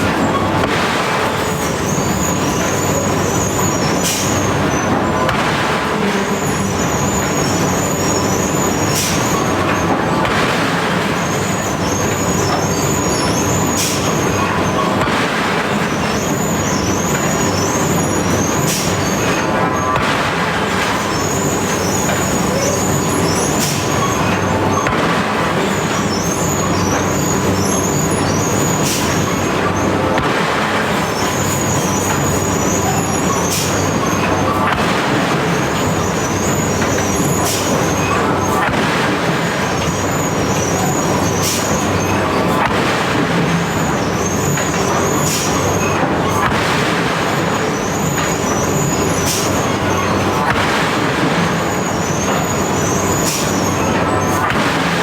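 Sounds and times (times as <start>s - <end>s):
heavy machinery humming: 0.0s - 55.0s
hissing or clanking bursts: 0.3s - 55.0s.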